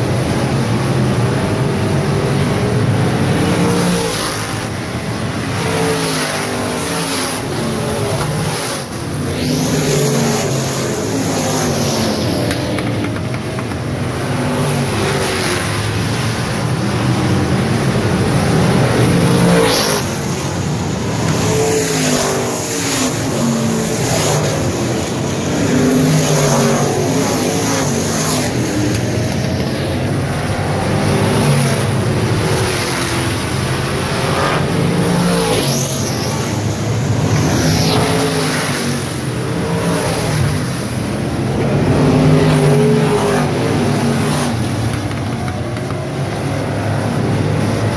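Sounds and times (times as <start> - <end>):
race car engines passing by: 0.0 - 47.9.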